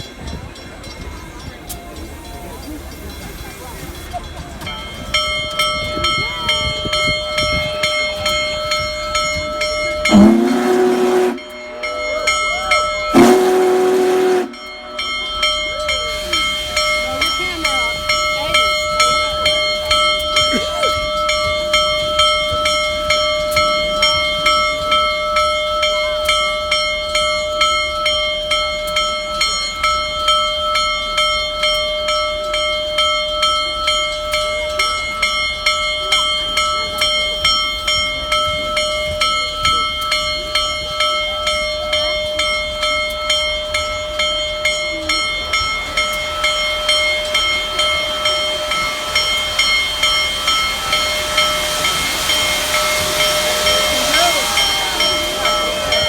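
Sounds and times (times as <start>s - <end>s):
steam locomotive bell ringing: 0.0s - 56.0s.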